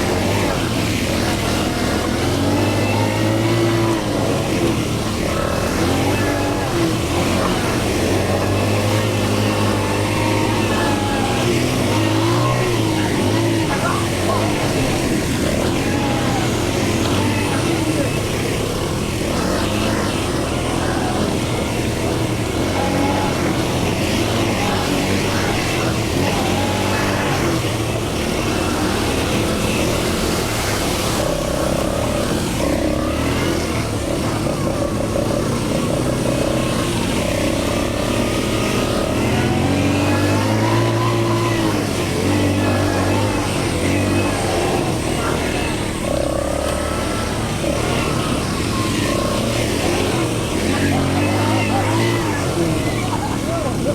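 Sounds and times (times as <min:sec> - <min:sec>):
atv engines revving: 0:00.0 - 0:53.9.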